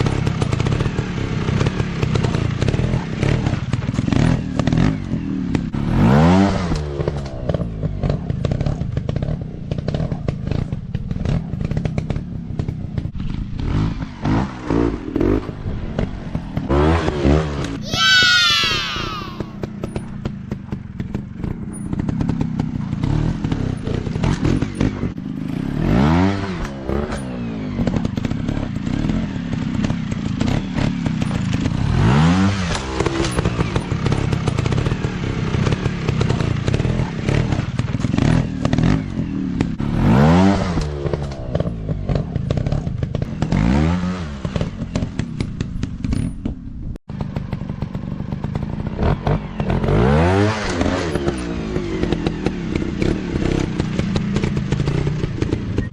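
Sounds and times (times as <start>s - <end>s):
dirt bike engine revving: 0.0s - 10.6s, 13.2s - 19.9s, 21.0s - 45.4s, 47.2s - 55.9s
engine clatter: 0.0s - 17.8s, 19.6s - 55.9s.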